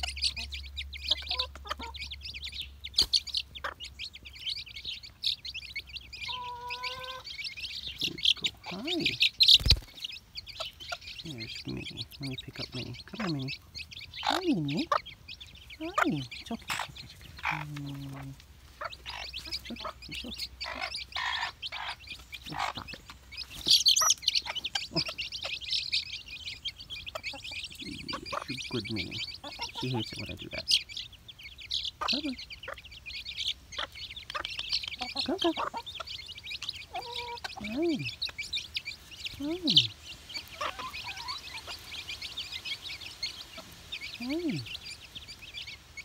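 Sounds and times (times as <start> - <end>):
chicks peeping: 0.0 - 46.0
hen clucking: 0.0 - 46.0.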